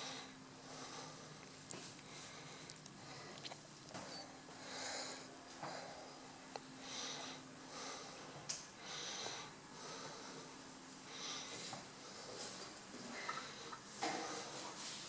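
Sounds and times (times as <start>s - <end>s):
person breathing: 0.0s - 14.8s
faint steady hum: 0.0s - 15.0s.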